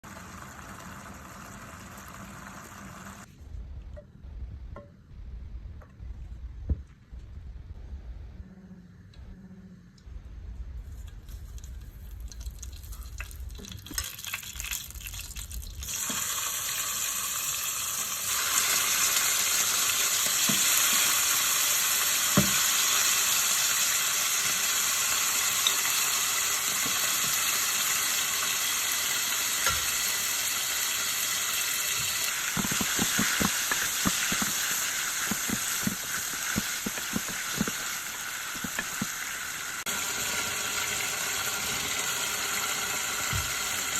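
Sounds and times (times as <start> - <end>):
food sizzling in hot oil: 0.0 - 3.3, 11.5 - 43.9.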